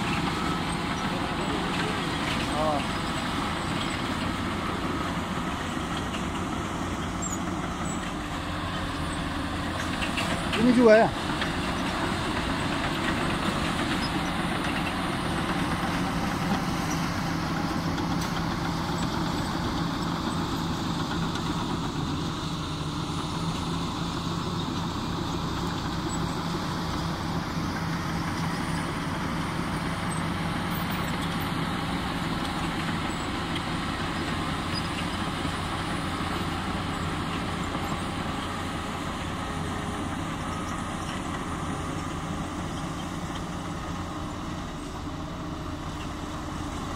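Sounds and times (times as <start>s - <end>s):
bulldozer diesel engine droning: 0.0s - 46.9s.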